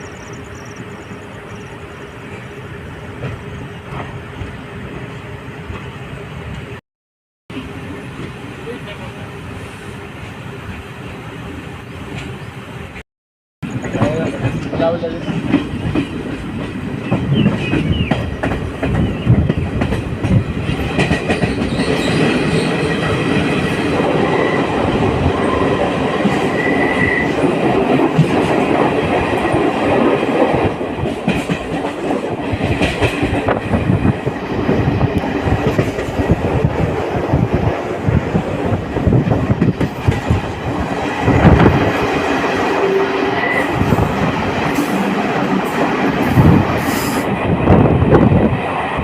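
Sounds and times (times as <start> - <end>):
train rumble: 0.0 - 6.8, 7.5 - 13.0, 13.6 - 49.0.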